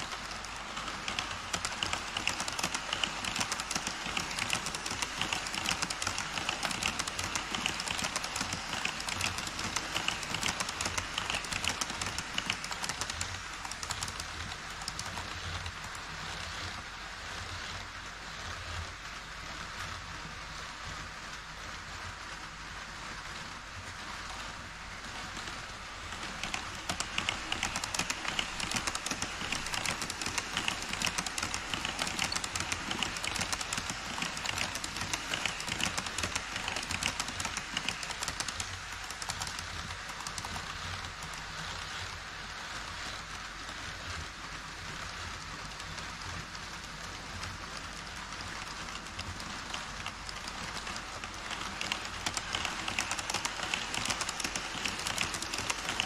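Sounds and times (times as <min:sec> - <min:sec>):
model train wheels clicking: 0:00.0 - 0:56.0.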